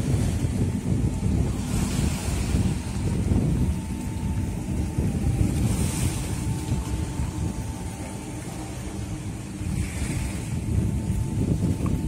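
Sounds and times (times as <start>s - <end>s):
faint mechanical hum: 0.0s - 12.0s
wind buffeting microphone: 0.0s - 12.0s.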